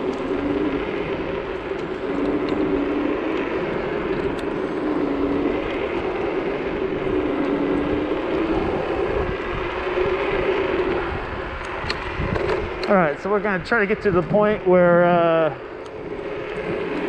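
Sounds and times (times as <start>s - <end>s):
road rumble: 0.0s - 17.0s
steady low hum: 0.0s - 17.0s
wind buffeting microphone: 0.0s - 17.0s.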